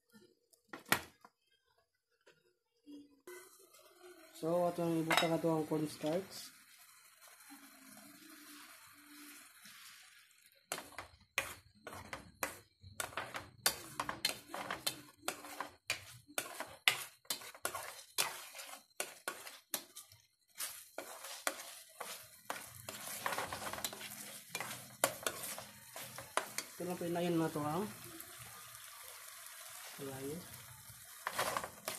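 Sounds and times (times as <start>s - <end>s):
spatula scraping a frying pan: 4.7s - 31.9s.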